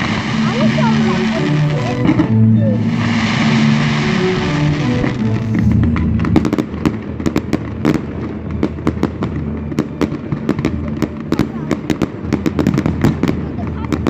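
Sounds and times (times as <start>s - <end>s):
fireworks popping and crackling: 0.0s - 14.0s.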